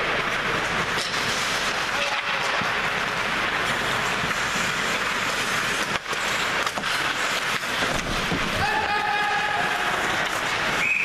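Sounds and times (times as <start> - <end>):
hockey play rushing noise: 0.0 - 10.8
skates scraping ice: 0.0 - 11.0.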